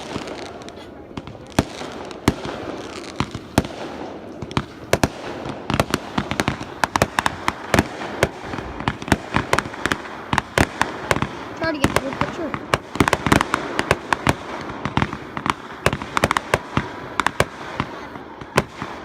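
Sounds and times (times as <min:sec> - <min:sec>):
fireworks hiss and crackle: 0:00.0 - 0:19.0
fireworks shells exploding: 0:00.0 - 0:19.0.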